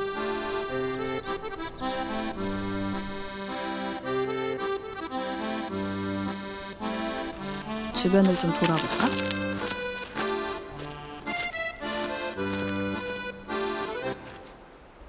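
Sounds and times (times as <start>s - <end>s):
instrumental background music: 0.0s - 14.5s.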